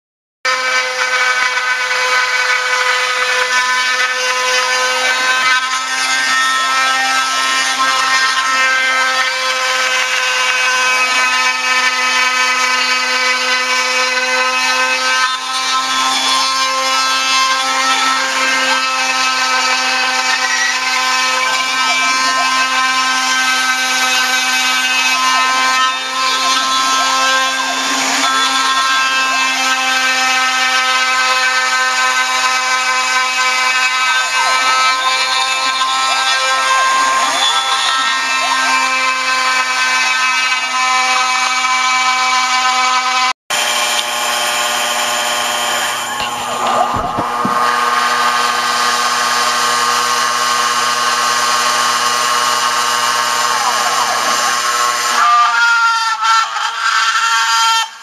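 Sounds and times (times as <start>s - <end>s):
end mill rasping through wood: 0.5s - 58.0s
router spindle high whine: 0.5s - 58.0s
gliding motor tones: 0.7s - 41.7s, 43.6s - 55.2s.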